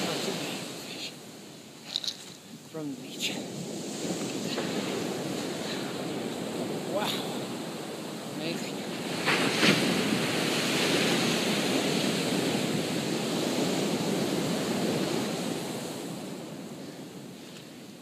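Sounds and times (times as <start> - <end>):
waves washing up sand: 0.0 - 18.0
wind on microphone: 0.0 - 18.0.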